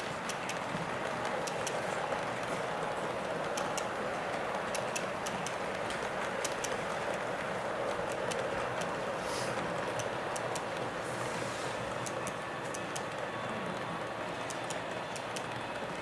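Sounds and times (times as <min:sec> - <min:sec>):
model train wheels rumbling: 0:00.0 - 0:16.0
wheels clicking over rail joints: 0:00.0 - 0:16.0.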